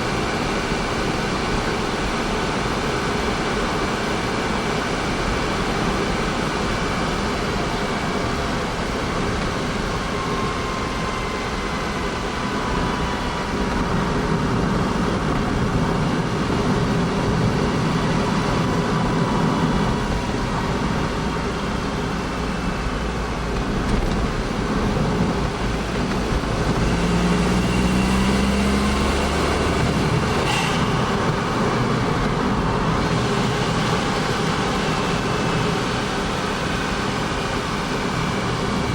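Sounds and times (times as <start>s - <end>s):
small car engine droning: 0.0s - 38.9s.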